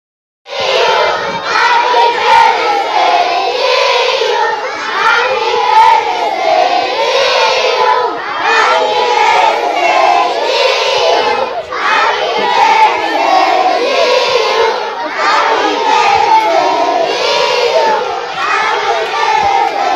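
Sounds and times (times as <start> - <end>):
children chanting in unison: 0.5 - 19.9.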